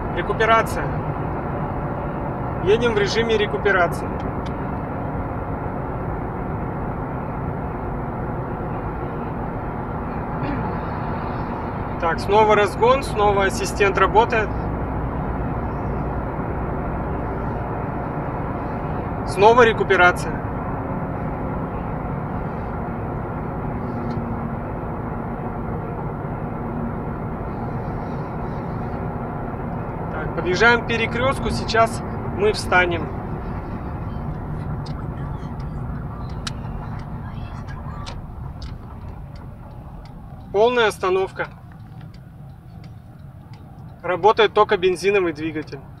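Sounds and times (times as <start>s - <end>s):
car cabin road noise: 0.0s - 46.0s.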